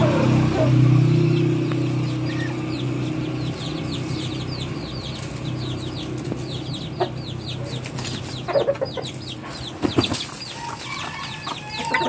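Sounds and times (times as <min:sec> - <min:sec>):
low engine hum: 0:00.0 - 0:12.0
small birds chirping: 0:00.0 - 0:12.0.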